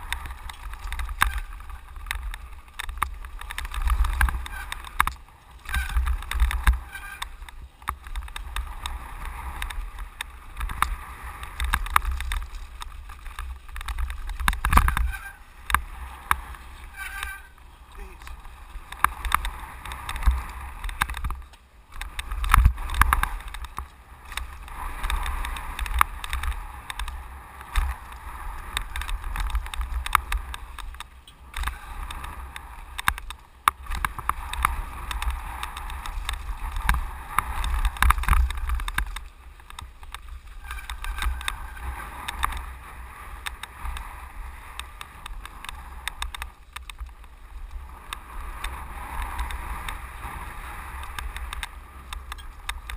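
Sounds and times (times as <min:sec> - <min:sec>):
bike rattling over bumps: 0:00.0 - 0:52.9.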